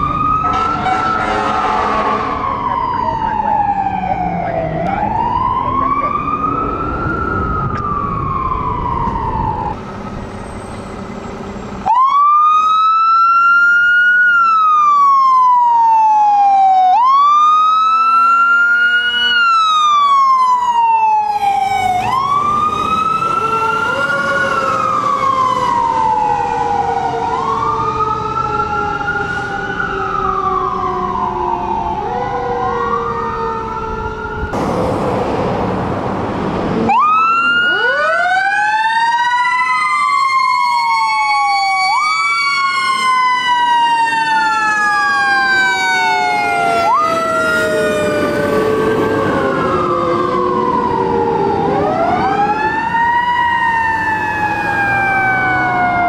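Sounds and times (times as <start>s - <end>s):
lower siren tone: 0.0s - 35.0s, 35.6s - 56.0s
fire engine siren wailing: 0.0s - 56.0s
traffic noise: 0.0s - 56.0s.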